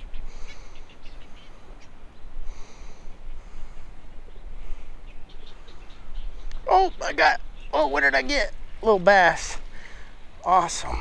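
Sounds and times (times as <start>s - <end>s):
birds chattering: 0.0s - 11.0s.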